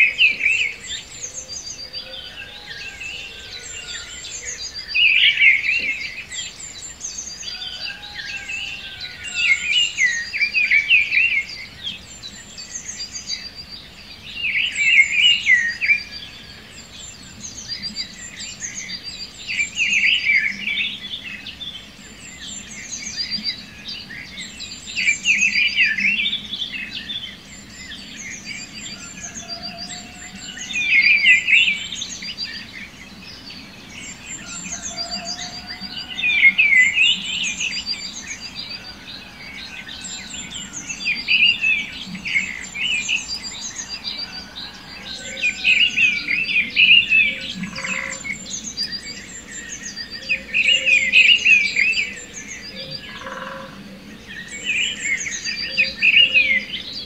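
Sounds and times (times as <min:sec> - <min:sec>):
bird warbling song: 0:00.0 - 0:57.0.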